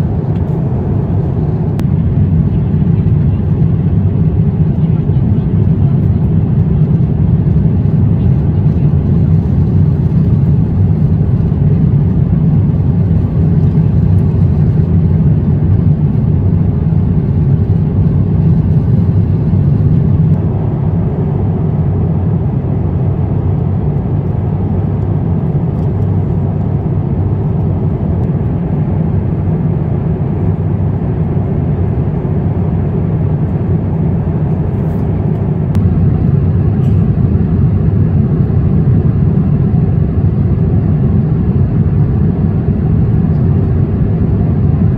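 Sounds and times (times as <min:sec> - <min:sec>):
airliner cabin rumble: 0:00.0 - 0:44.9.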